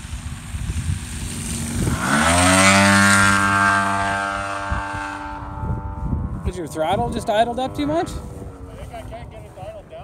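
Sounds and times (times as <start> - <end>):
model plane engine passing: 0.0 - 10.0.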